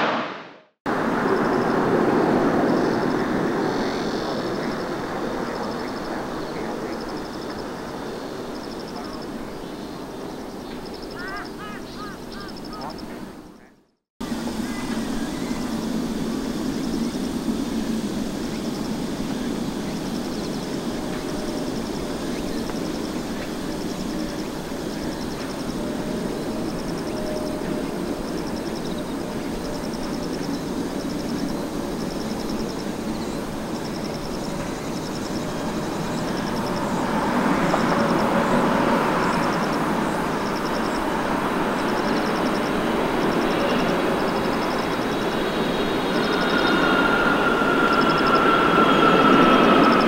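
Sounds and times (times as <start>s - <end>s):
jet engine rumble: 0.0s - 50.0s.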